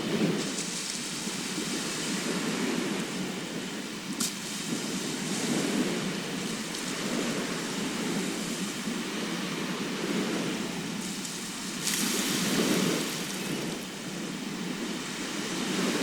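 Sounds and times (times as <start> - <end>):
sea surf washing ashore: 0.0 - 16.0.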